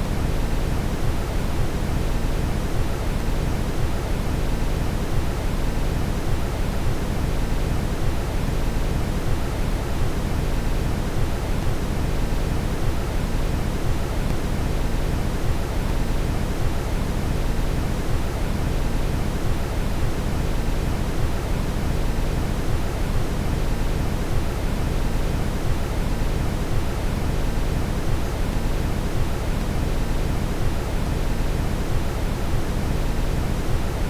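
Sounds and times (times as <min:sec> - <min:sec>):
brown noise hiss: 0:00.0 - 0:34.0.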